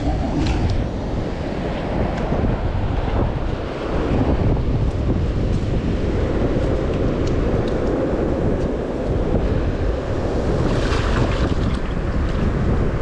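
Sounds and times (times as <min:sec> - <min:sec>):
surf washing in: 0:00.0 - 0:13.0
wind buffeting microphone: 0:00.0 - 0:13.0.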